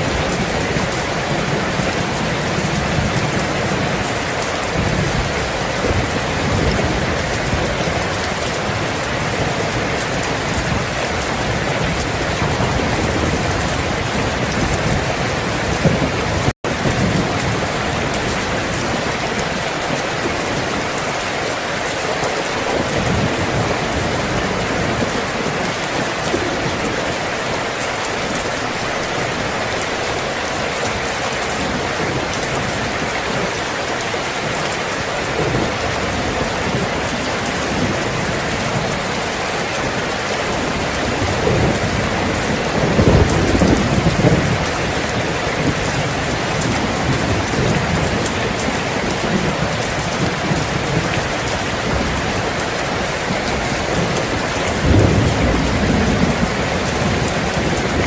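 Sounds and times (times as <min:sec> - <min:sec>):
heavy rain falling: 0:00.0 - 0:58.0
thunder rumbles: 0:00.0 - 0:58.0.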